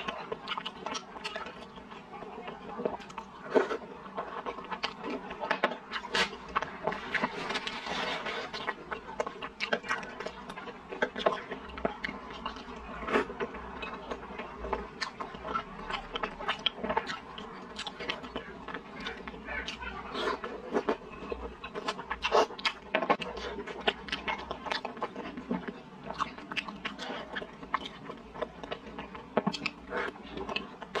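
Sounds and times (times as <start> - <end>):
chewing with mouth smacks: 0.0 - 31.0.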